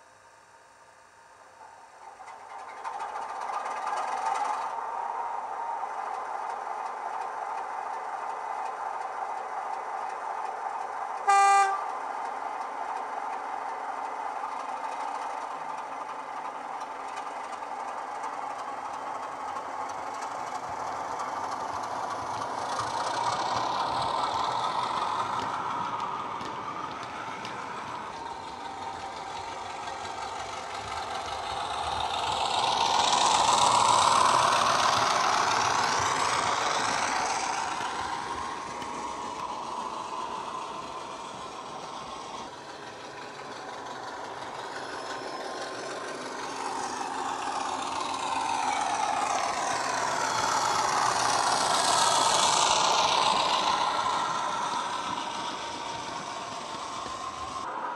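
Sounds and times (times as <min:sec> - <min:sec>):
diesel engine running: 0:02.0 - 0:57.8.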